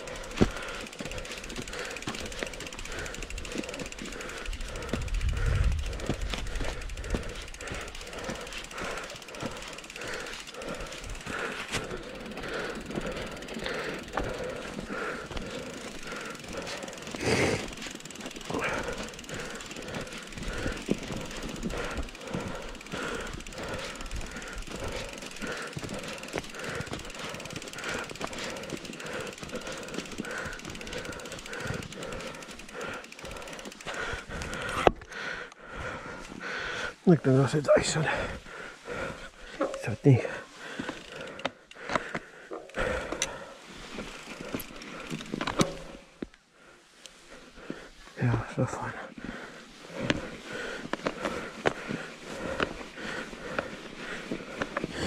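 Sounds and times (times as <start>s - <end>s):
bike rhythmic rattle: 0.0s - 55.0s.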